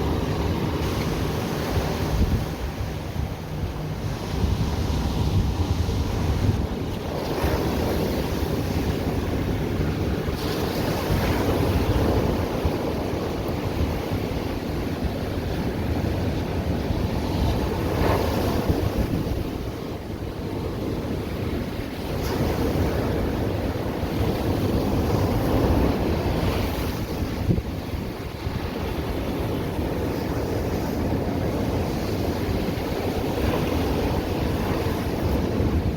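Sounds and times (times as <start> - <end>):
ocean waves on beach: 0.0 - 35.9
wind on microphone: 0.0 - 35.9.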